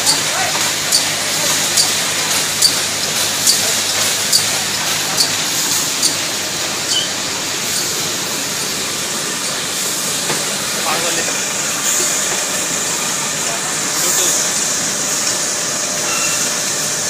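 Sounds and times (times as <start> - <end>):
machinery hiss and hum: 0.0 - 17.0.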